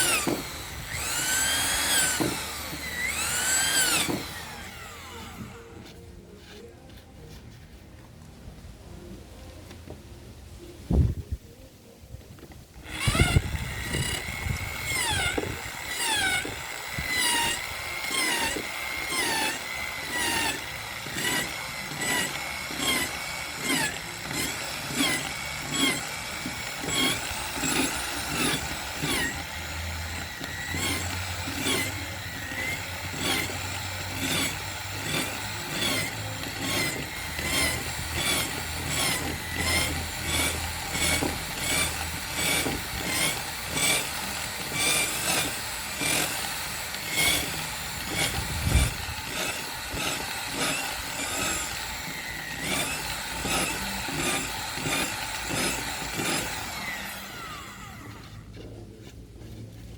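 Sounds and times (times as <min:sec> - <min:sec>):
saw squeaking: 0:00.0 - 0:06.0, 0:12.8 - 0:58.5
hand saw cutting wood: 0:00.0 - 0:06.7, 0:12.8 - 0:58.9.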